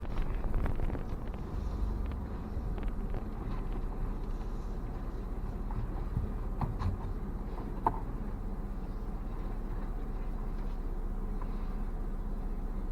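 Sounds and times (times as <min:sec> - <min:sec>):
car rumbling at low speed: 0:00.0 - 0:12.9.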